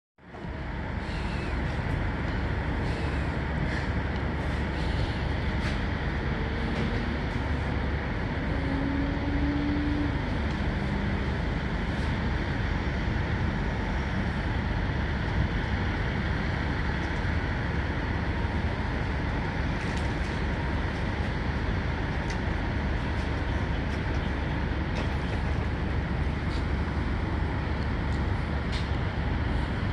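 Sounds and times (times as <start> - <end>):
traffic noise: 0.3 - 29.9
truck engines idling: 0.3 - 29.9.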